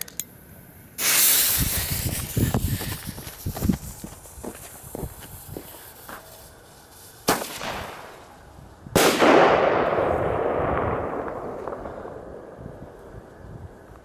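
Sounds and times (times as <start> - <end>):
fireworks bangs: 1.0 - 13.0.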